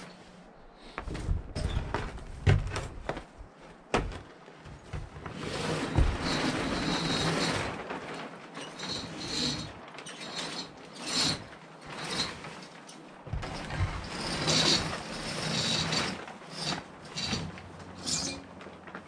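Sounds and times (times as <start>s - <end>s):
plastic tarp rustling: 1.0s - 19.0s.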